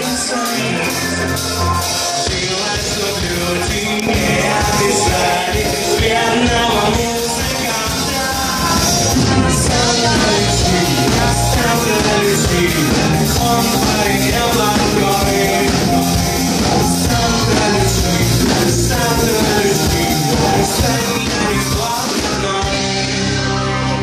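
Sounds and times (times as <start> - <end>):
drums: 0.0 - 24.0
electric guitar: 0.0 - 24.0
keyboards: 0.0 - 24.0
male singer: 0.0 - 24.0.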